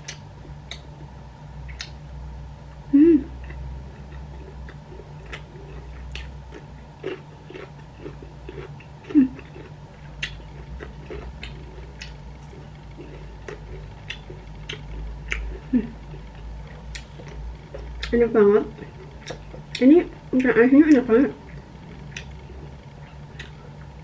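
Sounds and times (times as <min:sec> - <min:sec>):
person chewing crisp food: 0:03.4 - 0:20.5, 0:21.4 - 0:24.0.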